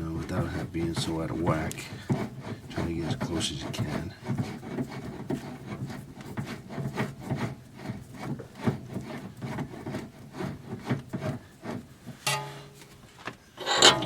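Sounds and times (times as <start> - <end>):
metal rubbing and scraping: 0.0 - 14.0.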